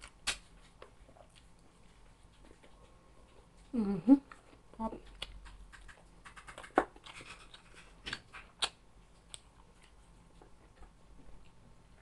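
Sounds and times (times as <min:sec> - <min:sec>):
person chewing with crackles: 0:00.0 - 0:12.0.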